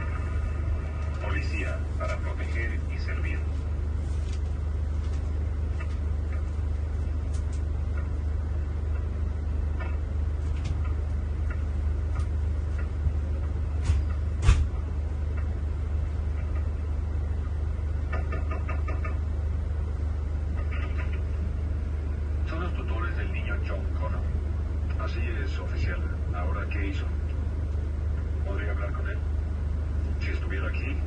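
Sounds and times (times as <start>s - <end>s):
coach engine droning: 0.0s - 31.0s.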